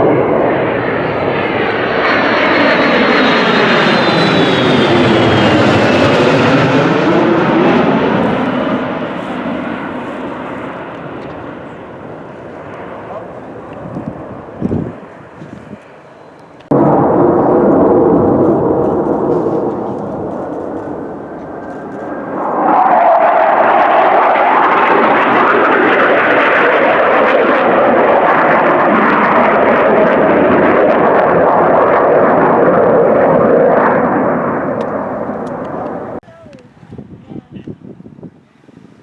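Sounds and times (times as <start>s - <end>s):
jet aircraft engine: 0.0s - 36.2s.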